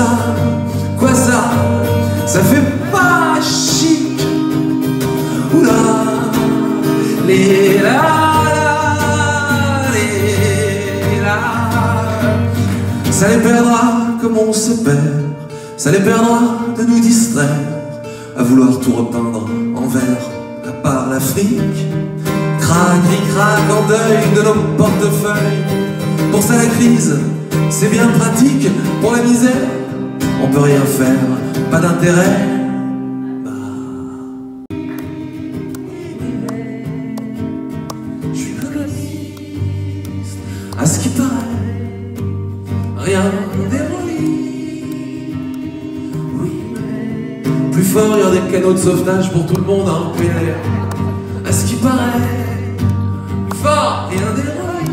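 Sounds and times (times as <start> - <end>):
acoustic guitars: 0.0 - 54.9
man singing: 0.0 - 54.9.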